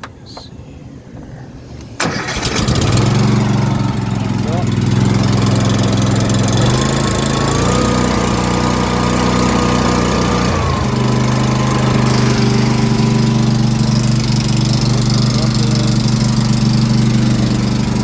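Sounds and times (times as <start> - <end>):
engine running: 1.4 - 18.0.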